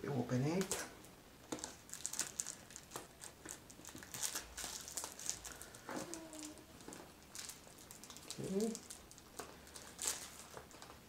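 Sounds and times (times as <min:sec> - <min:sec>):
packaging crinkling and rustling: 0:00.6 - 0:11.0.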